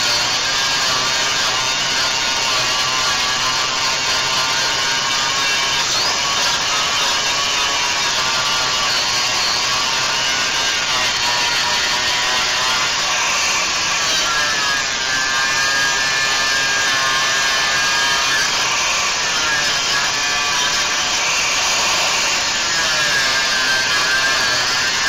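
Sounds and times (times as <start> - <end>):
power tool whining: 0.0 - 25.0.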